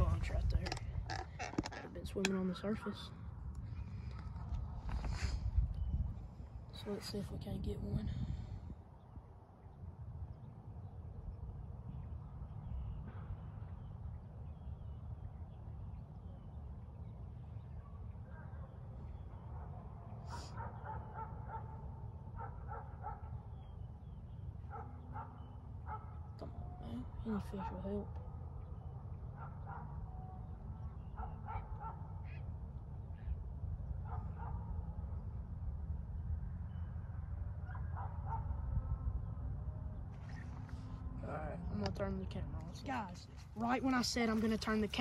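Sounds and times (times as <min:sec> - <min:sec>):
wind rumble on microphone: 0:00.0 - 0:45.0.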